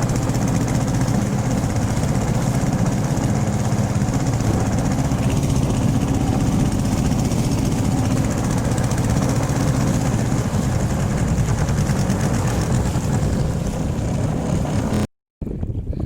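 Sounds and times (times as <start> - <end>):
boat engine droning: 0.0 - 15.1.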